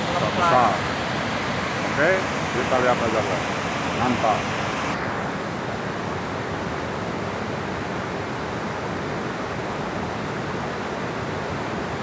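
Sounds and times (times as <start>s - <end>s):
water rushing at a dam: 0.0s - 12.0s.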